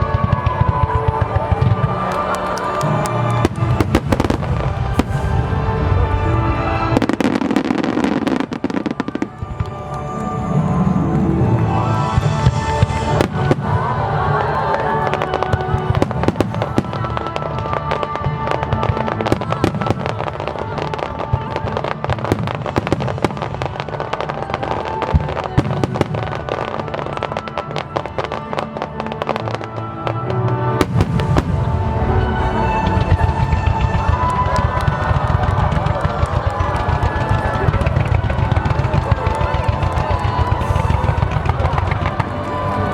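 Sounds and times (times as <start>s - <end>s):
fireworks bursting and crackling: 0.0s - 42.9s
music over loudspeakers: 0.0s - 42.9s.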